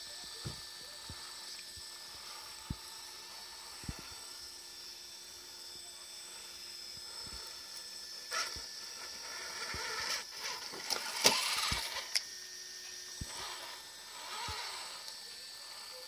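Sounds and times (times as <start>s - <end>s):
electric motor and gears whining: 0.0s - 16.0s.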